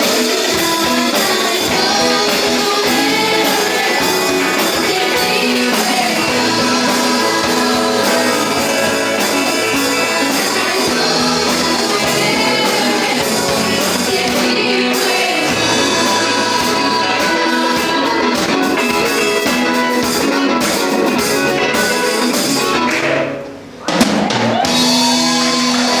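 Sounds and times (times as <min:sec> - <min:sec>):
gospel band playing a hymn: 0:00.0 - 0:26.0.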